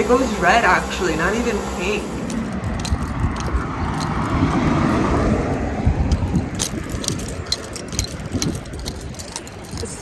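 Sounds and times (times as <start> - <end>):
street traffic passing: 0.0 - 10.0
wind buffeting microphone: 0.0 - 10.0.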